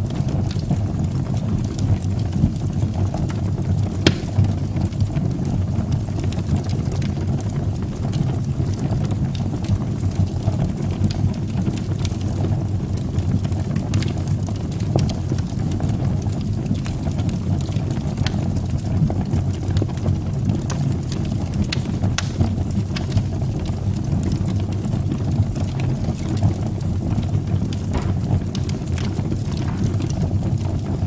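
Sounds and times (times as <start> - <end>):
fire crackling and popping: 0.0 - 31.0
fire flames rumbling: 0.0 - 31.0.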